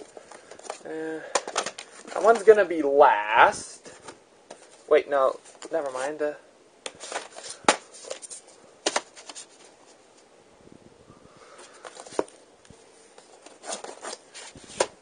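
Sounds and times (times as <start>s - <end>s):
soft handling rustle: 0.0s - 2.9s, 3.5s - 10.4s, 11.4s - 15.0s.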